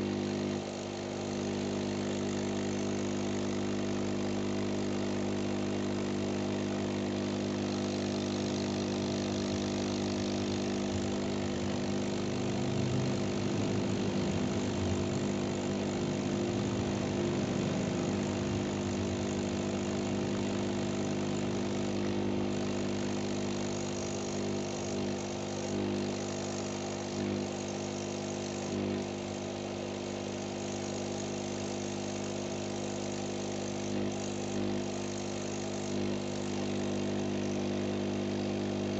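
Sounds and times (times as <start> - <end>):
small motor humming: 0.0 - 38.9.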